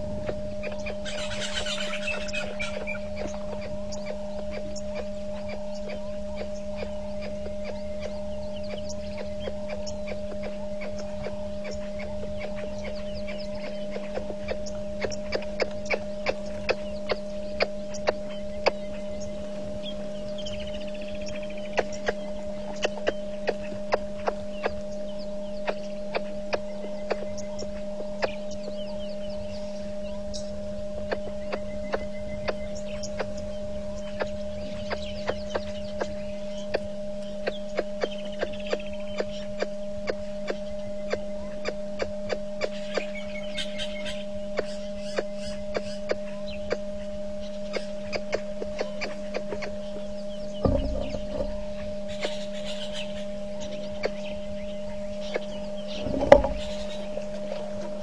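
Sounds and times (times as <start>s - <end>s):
electrical hum: 0.0s - 58.0s
faint birds calling: 0.0s - 58.0s.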